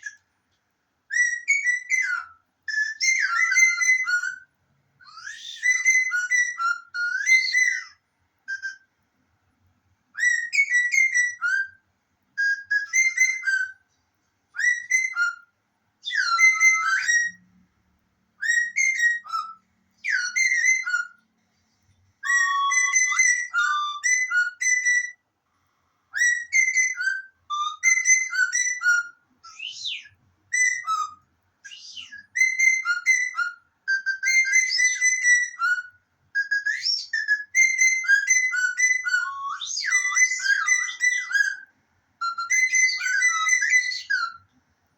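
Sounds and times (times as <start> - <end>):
parrot whistling: 1.1 - 8.9, 10.1 - 11.8, 12.4 - 13.8, 14.5 - 17.4, 18.4 - 21.3, 22.2 - 25.2, 26.1 - 44.5.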